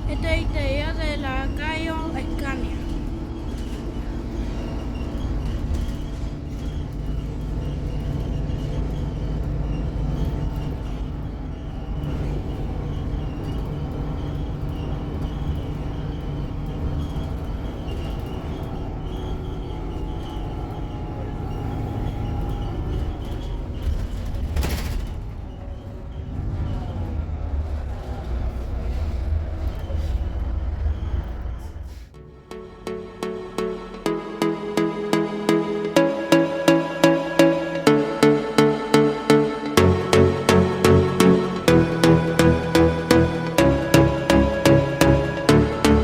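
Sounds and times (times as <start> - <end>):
bus diesel engine droning: 0.0 - 46.0
road rumble: 0.0 - 46.0.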